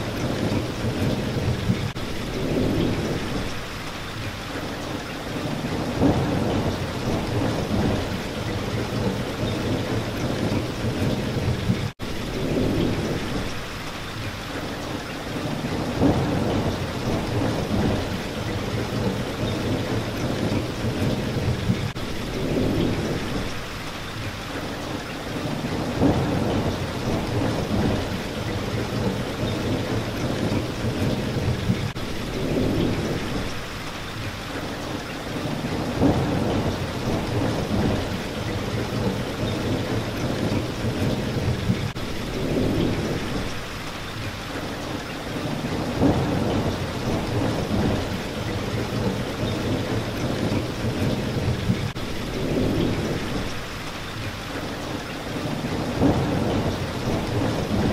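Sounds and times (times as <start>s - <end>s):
thunder rumbling: 0.0s - 3.8s, 5.3s - 13.8s, 15.3s - 23.8s, 25.3s - 33.8s, 35.3s - 43.9s, 45.3s - 53.8s, 55.3s - 57.9s
heavy rain on a window: 0.0s - 57.9s.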